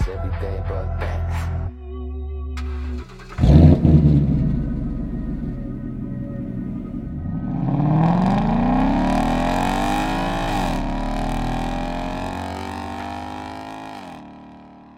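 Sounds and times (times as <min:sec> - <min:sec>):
car engine accelerating hard: 0:02.6 - 0:14.9.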